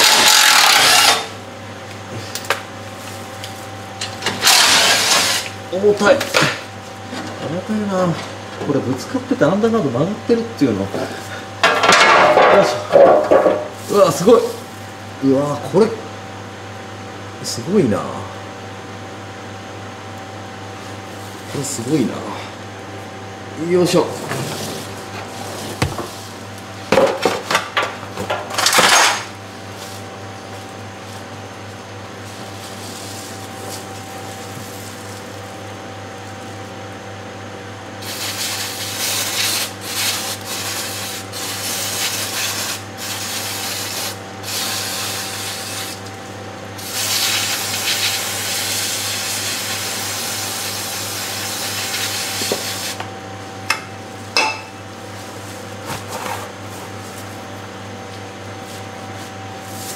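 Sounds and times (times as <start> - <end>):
fan humming: 0.0 - 59.9.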